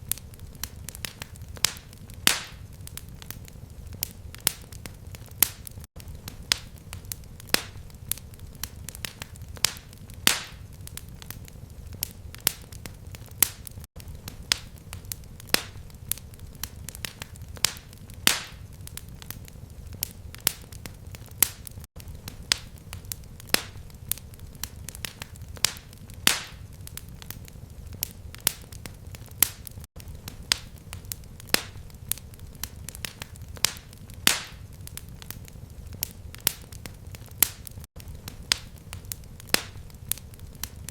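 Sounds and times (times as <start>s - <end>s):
fireplace fire crackling: 0.0s - 40.9s.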